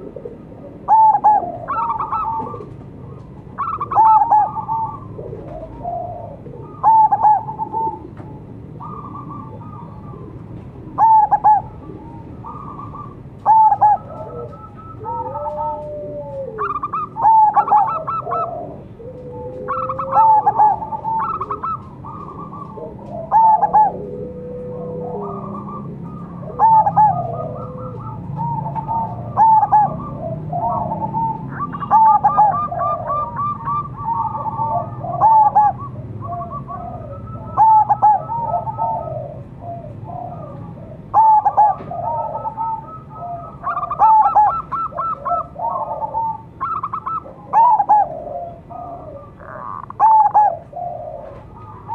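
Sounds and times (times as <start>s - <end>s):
dove cooing: 0.0s - 51.9s
low steady background hum: 0.0s - 51.9s.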